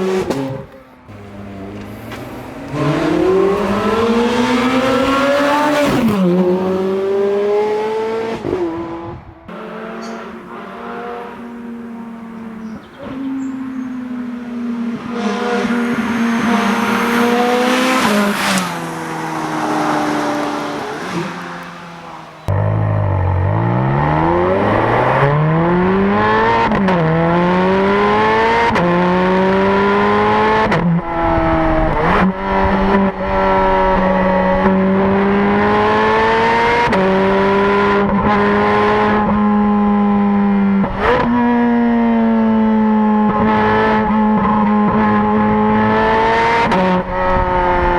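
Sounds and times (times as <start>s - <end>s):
sports car engine revving: 0.0s - 47.9s.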